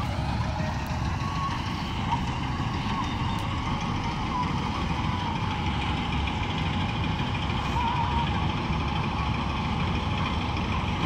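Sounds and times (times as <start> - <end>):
combine harvester rumbling: 0.0 - 11.0.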